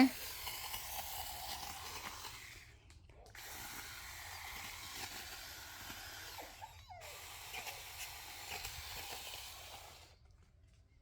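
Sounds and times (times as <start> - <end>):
power tool cutting vegetation: 0.0 - 10.2.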